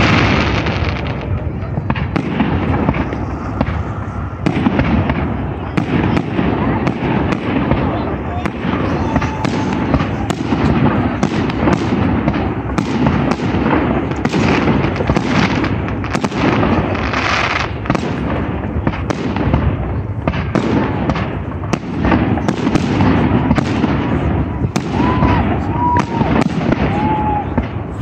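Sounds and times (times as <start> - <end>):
firework crackle: 0.0 - 28.0.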